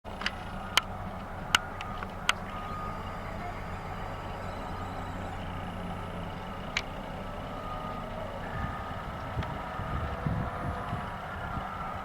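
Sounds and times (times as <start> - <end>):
heavy machinery droning: 0.1 - 12.0.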